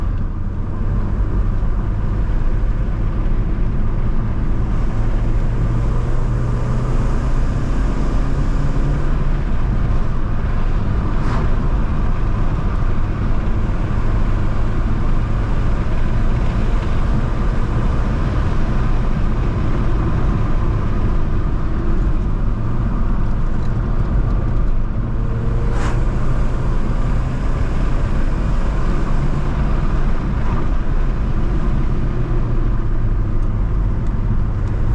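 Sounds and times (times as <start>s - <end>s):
car engine droning: 0.0s - 34.9s
road noise: 0.0s - 34.9s.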